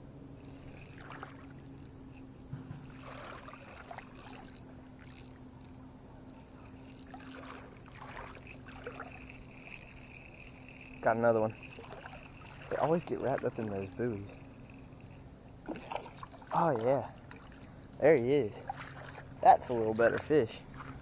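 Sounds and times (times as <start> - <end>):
low steady hum: 0.0 - 21.0
water lapping at bank: 0.0 - 21.0
soft splashes: 0.5 - 2.0, 2.6 - 5.4, 6.5 - 21.0.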